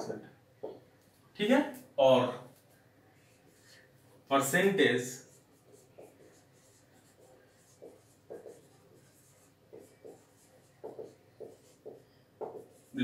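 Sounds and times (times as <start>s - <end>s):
marker writing on whiteboard: 0.6s - 1.2s, 2.5s - 13.0s.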